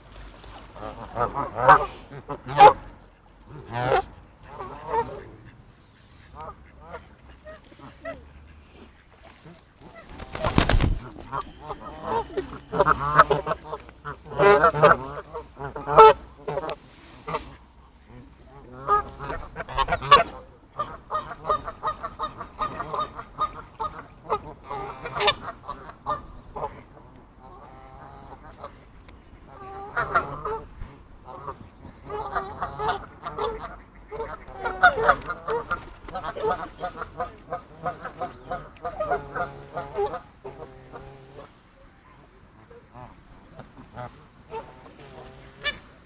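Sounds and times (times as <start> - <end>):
waterfowl calling: 0.8 - 41.6, 42.6 - 46.0.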